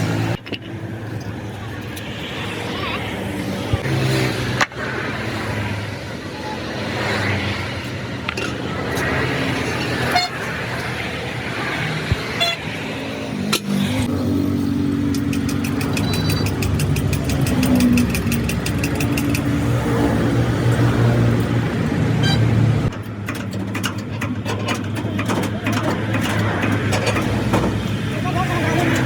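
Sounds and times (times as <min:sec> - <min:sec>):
road traffic: 0:00.0 - 0:29.0.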